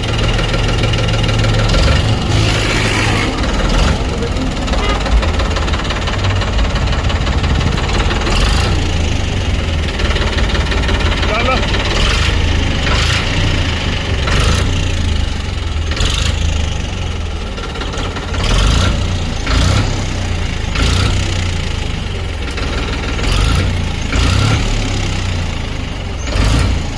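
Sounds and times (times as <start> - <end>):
tractor engine idling: 0.0 - 26.9.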